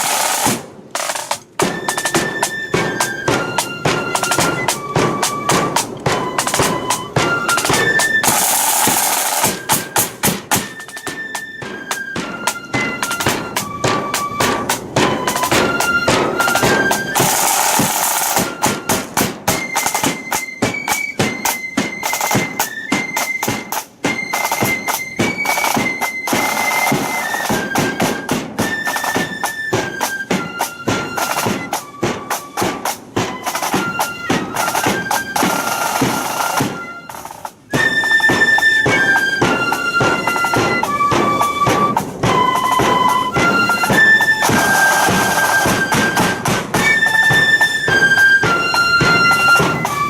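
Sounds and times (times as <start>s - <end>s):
shrill flutes: 0.0s - 50.0s
snare and bass drum beats: 0.0s - 50.0s.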